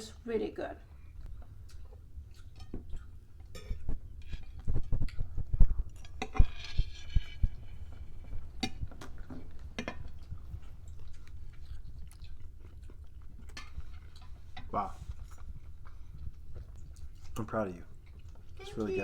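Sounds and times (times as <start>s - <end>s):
chewing: 0.9s - 19.0s.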